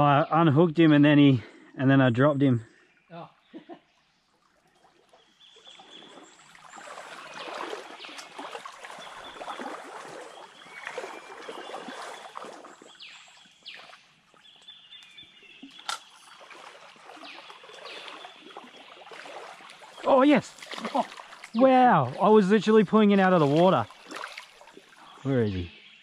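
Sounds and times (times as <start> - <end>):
stream water rippling: 2.7 - 26.0.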